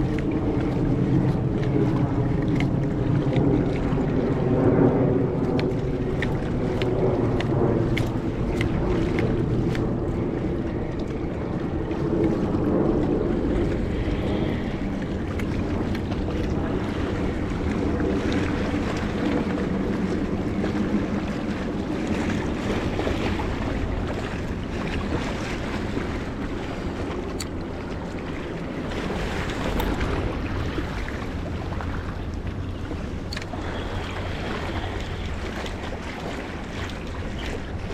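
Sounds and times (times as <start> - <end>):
low motor drone: 0.0 - 37.9
waves washing on rocks: 0.0 - 37.9
wind buffeting microphone: 0.0 - 37.9.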